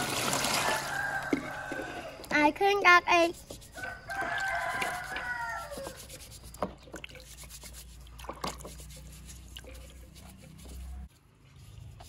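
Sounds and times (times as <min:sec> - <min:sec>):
scouring pad scrubbing eggs: 0:00.1 - 0:12.0.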